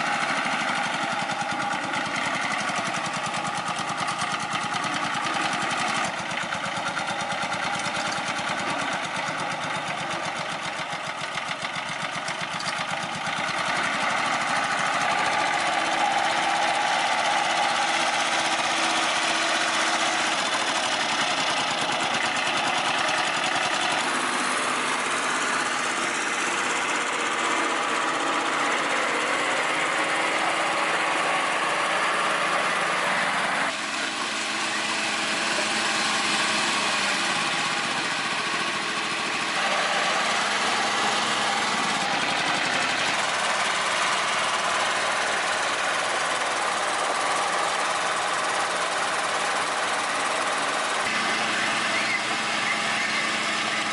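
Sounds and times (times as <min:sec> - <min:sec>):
engine running pulsing: 0:00.0 - 0:53.9.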